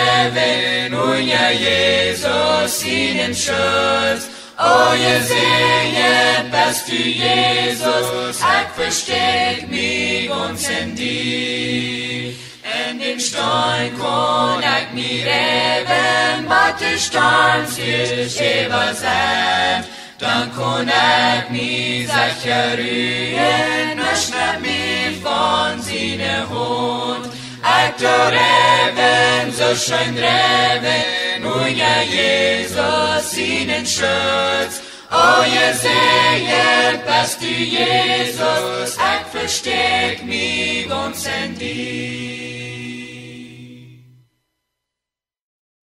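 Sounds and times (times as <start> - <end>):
voices singing a slow hymn: 0.0 - 44.3.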